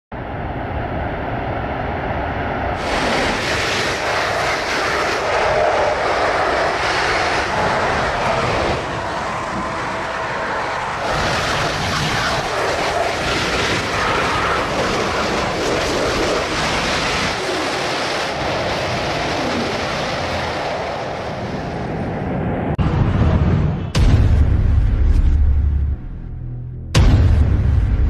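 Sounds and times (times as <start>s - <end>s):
high-speed trains rushing past: 0.1s - 23.9s.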